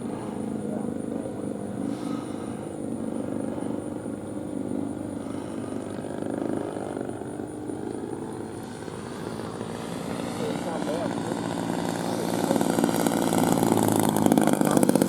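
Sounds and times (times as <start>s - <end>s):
model airplane engine running: 0.0s - 15.0s
propeller buzzing: 0.0s - 15.0s.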